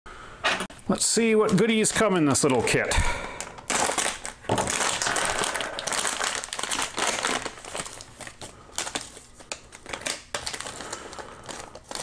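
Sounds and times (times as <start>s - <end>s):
plastic bags crinkling: 1.4s - 12.0s.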